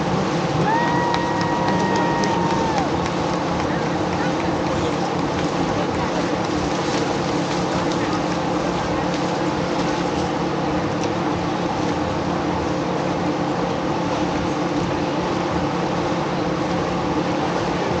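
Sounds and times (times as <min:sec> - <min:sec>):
machine droning hum: 0:00.0 - 0:18.0.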